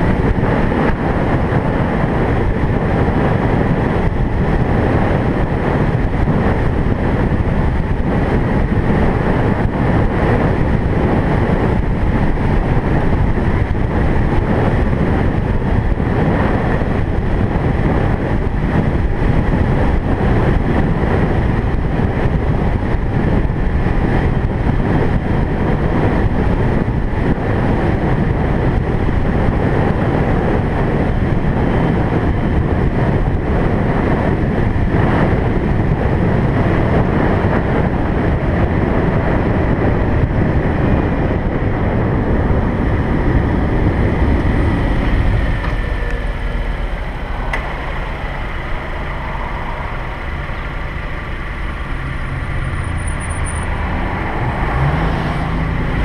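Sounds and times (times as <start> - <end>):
car road and wind noise: 0.0 - 56.0.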